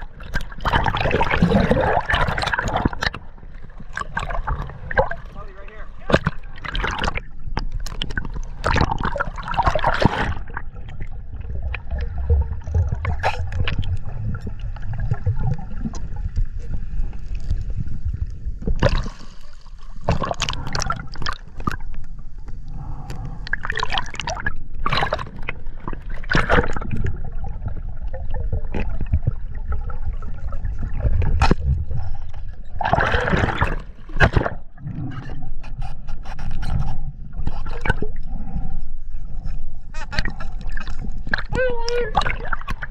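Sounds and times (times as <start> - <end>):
seawater sloshing and splashing: 0.0 - 21.8, 23.5 - 31.9, 32.5 - 35.4, 39.4 - 42.9.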